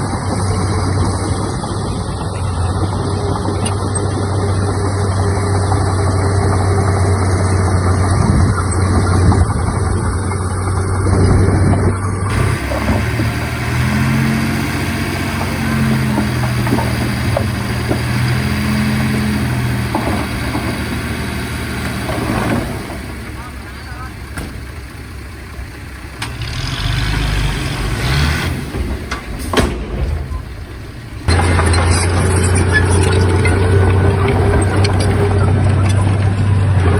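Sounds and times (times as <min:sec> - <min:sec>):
heavy diesel engine droning: 0:00.0 - 0:36.9.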